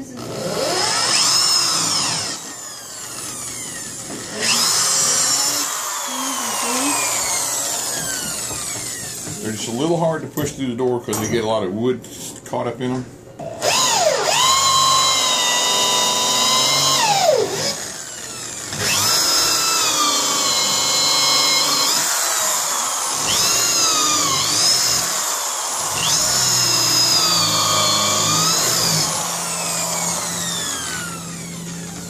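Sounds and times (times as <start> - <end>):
power drill boring through wood: 0.0 - 10.0, 13.5 - 32.0.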